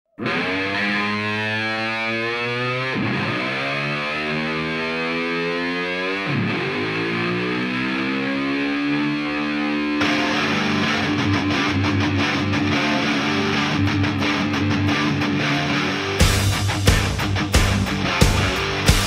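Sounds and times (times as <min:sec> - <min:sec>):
distorted electric guitar music: 0:00.1 - 0:19.0.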